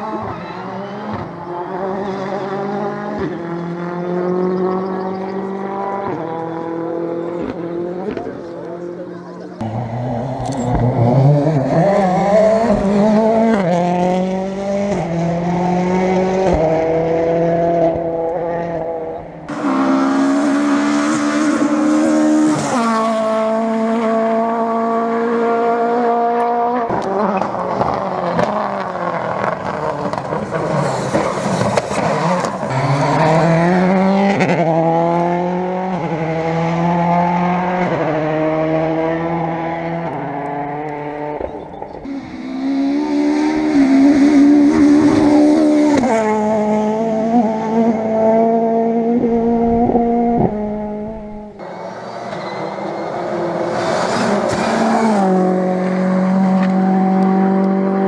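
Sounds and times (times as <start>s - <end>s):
rally car engines at full throttle: 0.0s - 58.0s.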